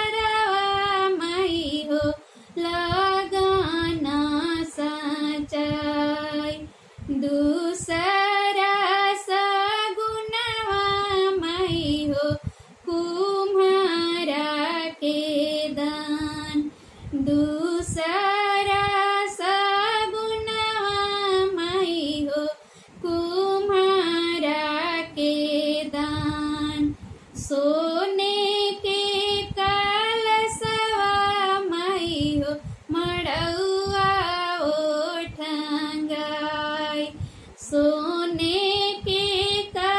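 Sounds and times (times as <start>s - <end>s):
woman singing folk song: 0.0s - 39.9s.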